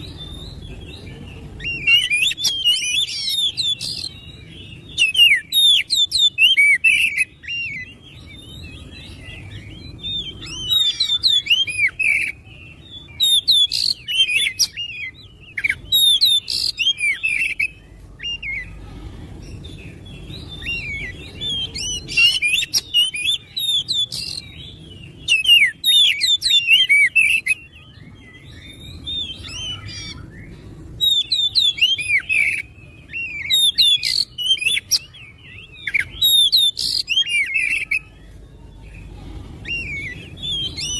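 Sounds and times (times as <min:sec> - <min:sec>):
bird singing whistles and chirps: 0:00.0 - 0:18.8, 0:19.4 - 0:40.9.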